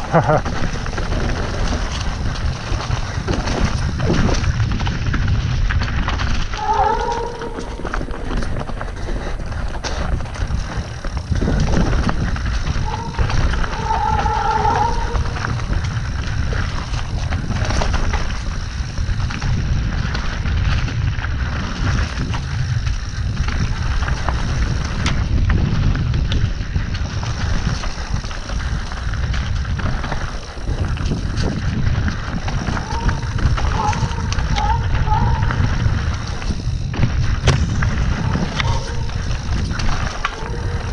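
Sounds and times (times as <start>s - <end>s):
bike rattling over rough ground: 0.0s - 40.9s
tyres rolling on dirt: 0.0s - 40.9s
wind rumble on microphone: 0.0s - 40.9s.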